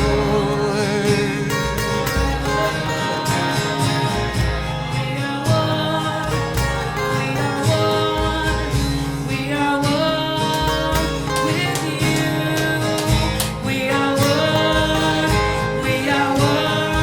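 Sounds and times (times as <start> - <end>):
acoustic guitar: 0.0 - 17.0
sustained singing: 0.0 - 17.0.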